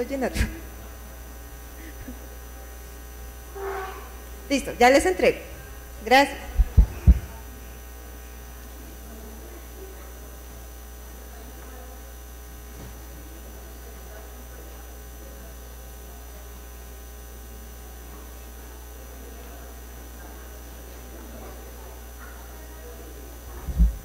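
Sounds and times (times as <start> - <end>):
electrical mains hum: 0.0 - 24.0
faint voices talking: 0.0 - 24.0.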